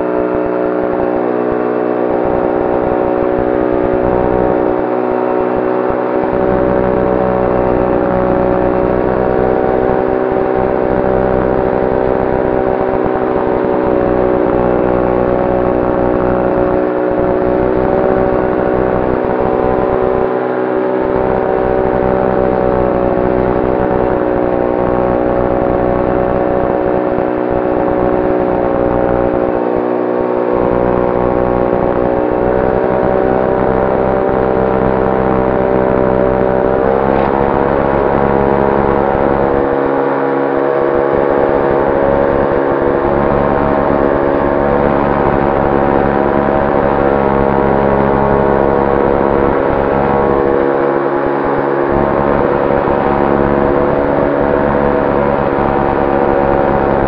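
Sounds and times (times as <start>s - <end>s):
electric motor and propeller humming: 0.0s - 57.0s.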